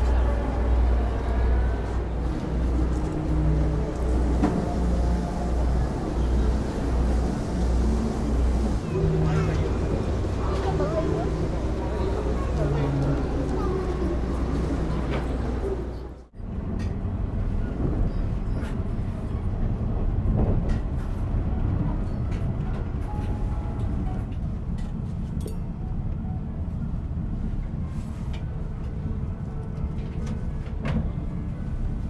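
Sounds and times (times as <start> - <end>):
train low rumble from inside: 0.0 - 32.0.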